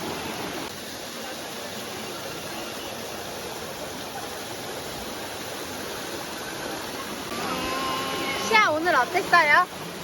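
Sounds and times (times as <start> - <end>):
water rushing in stream: 0.0 - 10.0.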